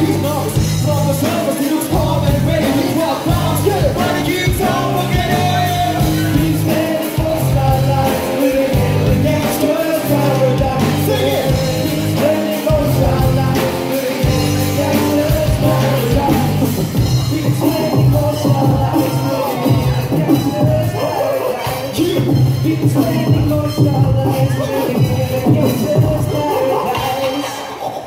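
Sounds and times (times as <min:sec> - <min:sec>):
rock band playing: 0:00.0 - 0:28.0
sung vocal: 0:00.0 - 0:28.0.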